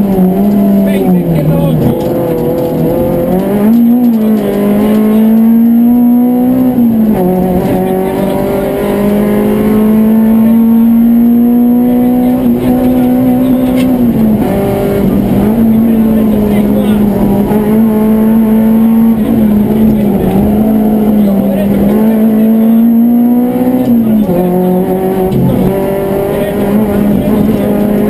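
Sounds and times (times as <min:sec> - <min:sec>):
rally car engine at high revs: 0:00.0 - 0:28.0.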